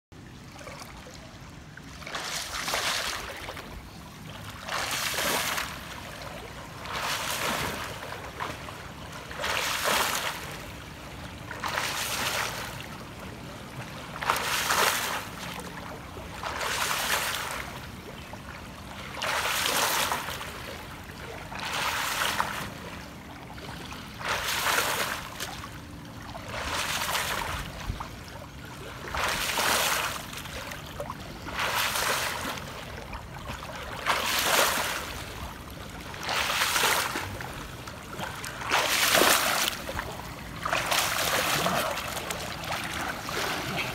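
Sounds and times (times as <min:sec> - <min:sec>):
quiet water noise: 0:00.1 - 0:43.9
swimmer splashing water: 0:00.5 - 0:43.9.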